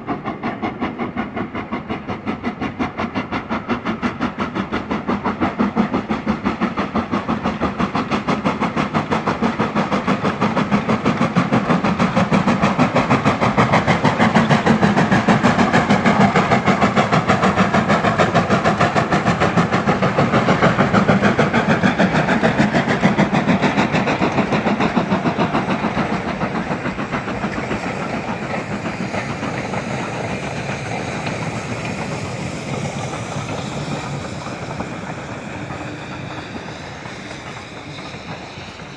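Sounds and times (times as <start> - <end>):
steam locomotive exhaust beat: 0.0 - 38.9.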